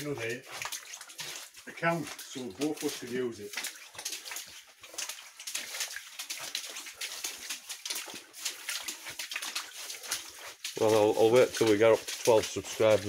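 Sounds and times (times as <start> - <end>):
footsteps splashing through shallow water: 0.0 - 13.0.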